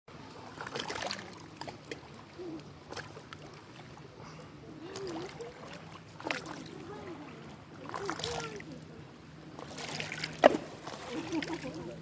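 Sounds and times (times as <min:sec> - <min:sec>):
small waves lapping and splashing: 0:00.1 - 0:12.0.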